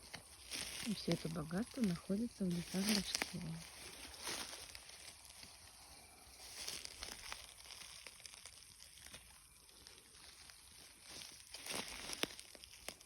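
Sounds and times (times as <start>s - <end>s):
rustling and crackling: 0.0s - 5.7s, 6.4s - 13.0s.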